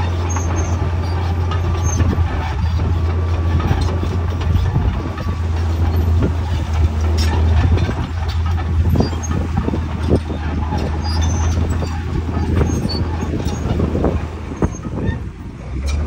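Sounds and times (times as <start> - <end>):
diesel engine running: 0.0 - 16.0
steel tracks clanking: 0.0 - 16.0.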